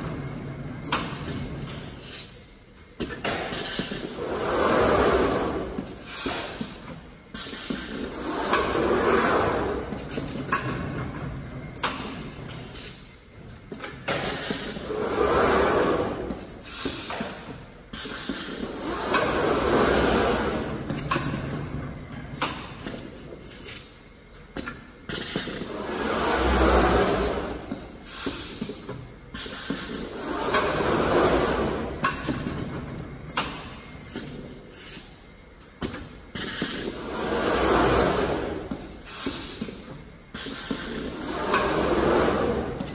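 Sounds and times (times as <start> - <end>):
machine running noise: 0.0 - 42.9.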